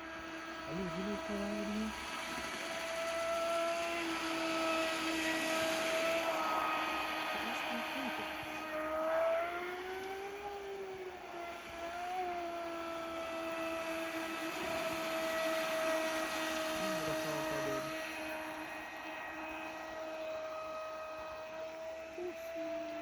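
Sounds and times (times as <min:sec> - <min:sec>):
model boat motor whining: 0:00.0 - 0:23.0.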